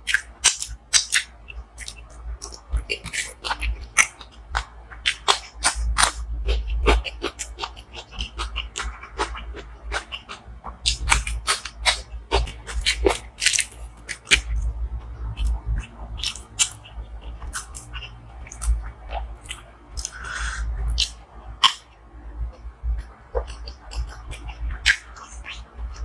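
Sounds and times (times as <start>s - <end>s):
chewing with wet mouth clicks: 0.0s - 14.7s, 15.4s - 26.0s.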